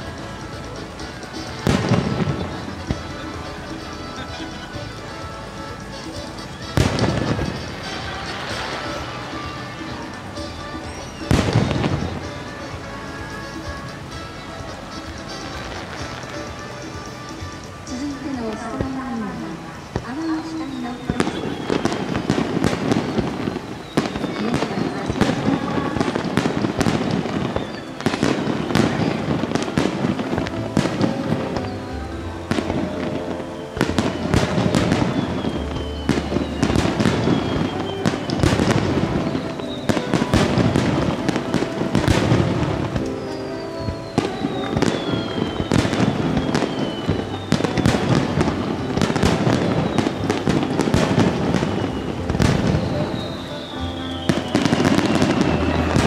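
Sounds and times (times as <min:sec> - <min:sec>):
fireworks shells bursting: 0:00.0 - 0:56.0
falling firework whistles: 0:01.1 - 0:56.0.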